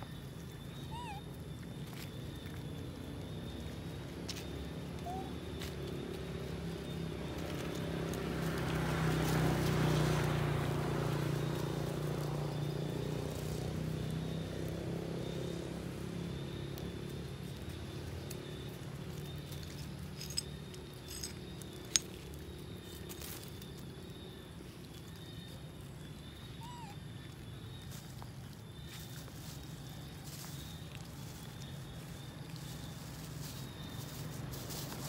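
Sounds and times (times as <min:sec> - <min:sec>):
vehicle engine passing by: 0:02.9 - 0:35.0.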